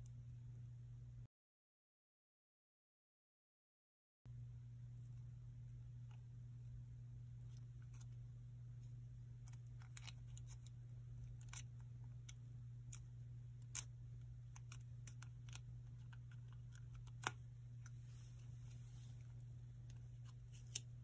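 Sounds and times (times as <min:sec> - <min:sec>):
low steady hum: 0:00.0 - 0:01.3, 0:04.3 - 0:21.0.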